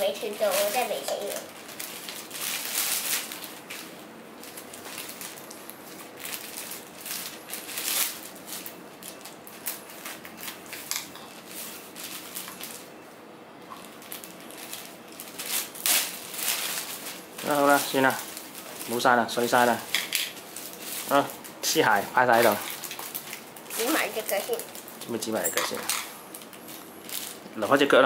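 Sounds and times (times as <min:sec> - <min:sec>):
paper crinkling: 0:00.0 - 0:13.0, 0:13.7 - 0:27.5.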